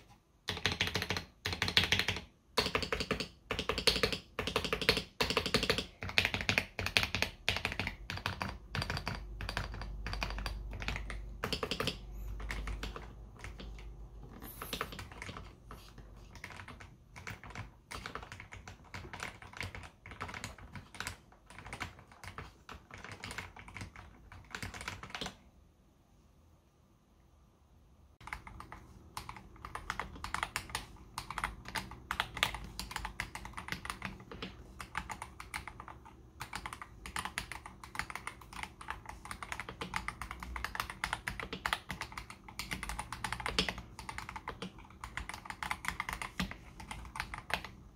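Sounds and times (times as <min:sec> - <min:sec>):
typing on mechanical keyboard: 0:00.0 - 0:25.4, 0:28.2 - 0:47.9.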